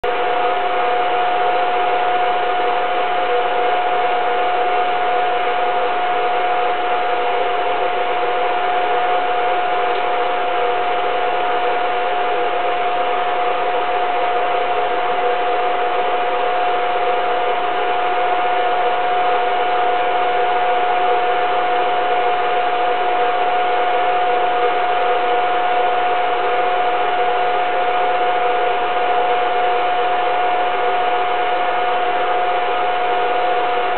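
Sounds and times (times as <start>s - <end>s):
film projector motor whirring: 0.1s - 33.9s.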